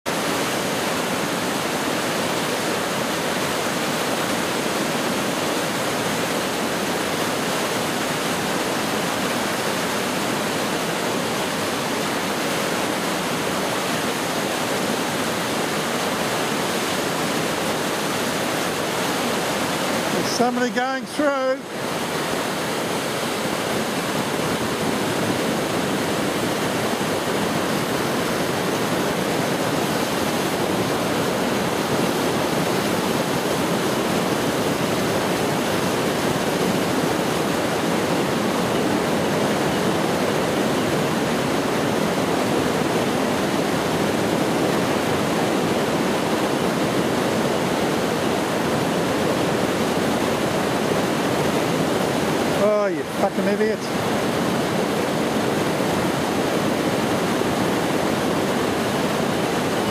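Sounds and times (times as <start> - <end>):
fast-flowing floodwater rushing: 0.0 - 59.9.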